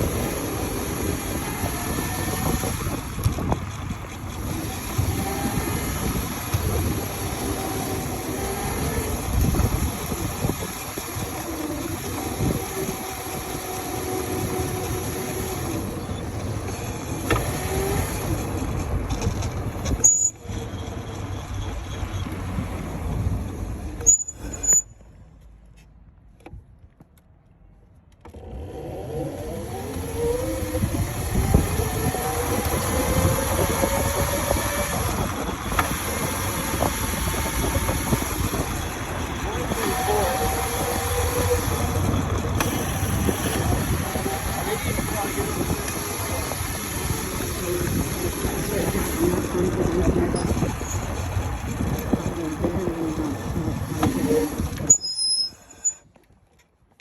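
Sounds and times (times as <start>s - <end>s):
mini motorbike motor whining: 0.0s - 24.9s, 28.2s - 56.0s
low rumble of wind and road: 0.0s - 57.0s.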